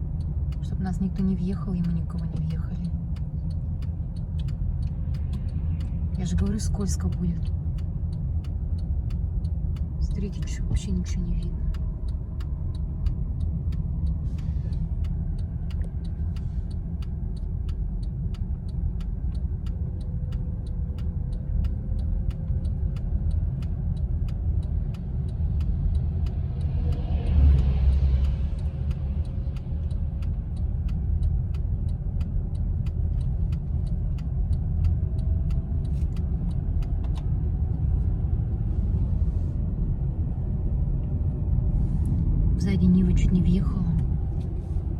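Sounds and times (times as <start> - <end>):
car engine and tyres rumbling: 0.0 - 44.9
faint regular ticks: 0.0 - 44.9.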